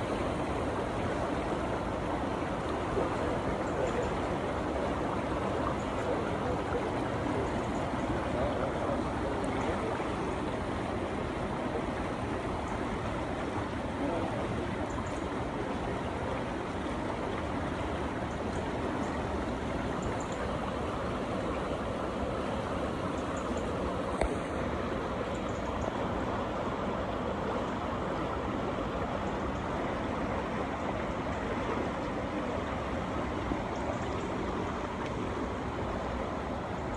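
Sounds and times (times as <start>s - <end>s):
water rushing and splashing: 0.0s - 36.9s.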